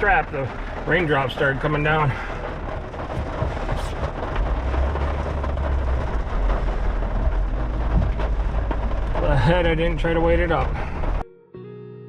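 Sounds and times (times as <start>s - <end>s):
low rumble: 0.0s - 11.2s
rain falling: 0.0s - 11.2s.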